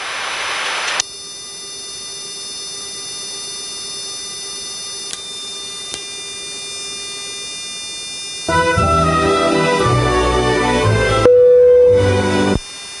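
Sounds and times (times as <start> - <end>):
aircraft cockpit hum and whine: 0.0 - 13.0.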